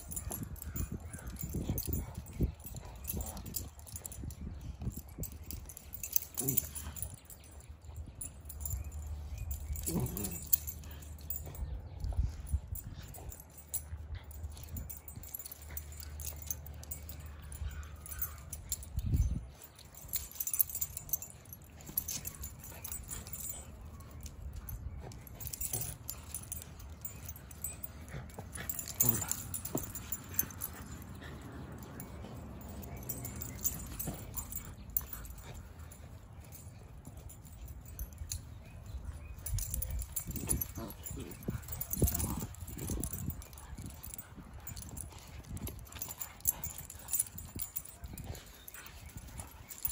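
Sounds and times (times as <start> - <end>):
dogs play growling: 0.0 - 18.9, 19.6 - 49.9
collar tags jingling: 0.0 - 49.9.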